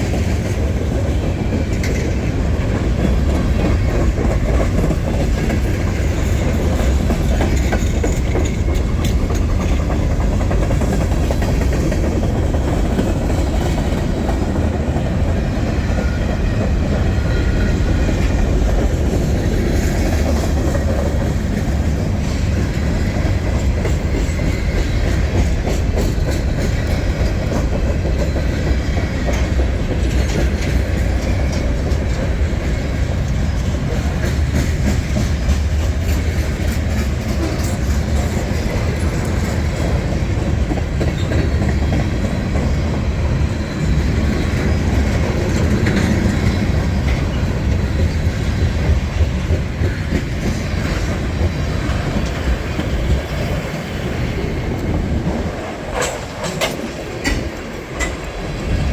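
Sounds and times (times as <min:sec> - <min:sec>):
clickety-clack over rail joints: 0:00.0 - 0:58.9
freight train wheels rumbling: 0:00.0 - 0:58.9.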